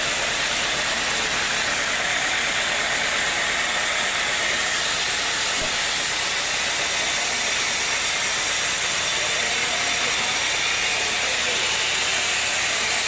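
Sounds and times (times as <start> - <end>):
machinery hissing: 0.0 - 13.0.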